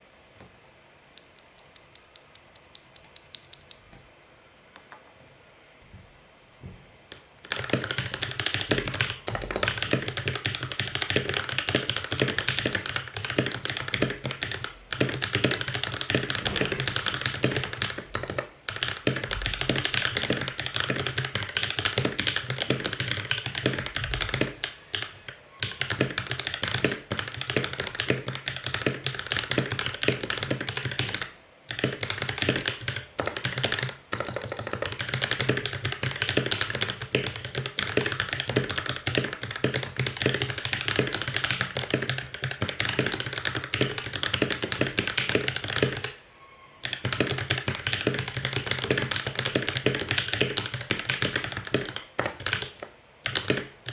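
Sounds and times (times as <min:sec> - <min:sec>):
fast typing on mechanical keyboard: 0:01.5 - 0:03.8, 0:07.4 - 0:46.2, 0:46.8 - 0:53.9.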